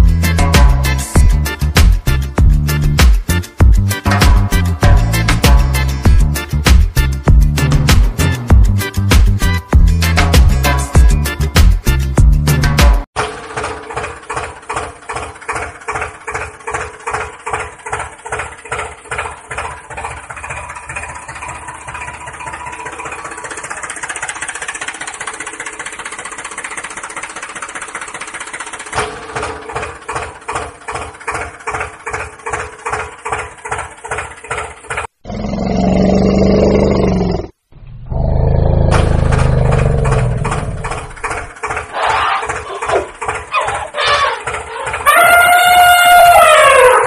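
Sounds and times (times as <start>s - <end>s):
tractor engine running: 0.0s - 35.3s, 36.0s - 47.0s.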